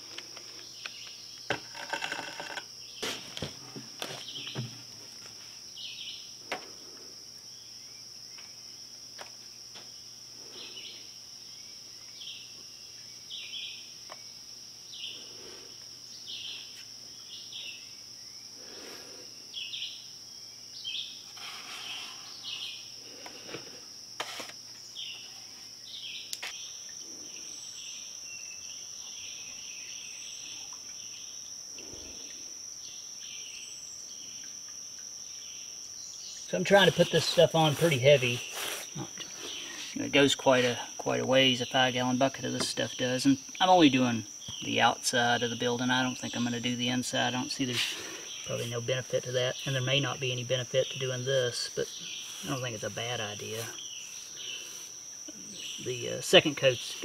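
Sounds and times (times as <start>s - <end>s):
high-pitched insect trill: 0.0s - 57.0s
insect chirps: 0.0s - 57.0s.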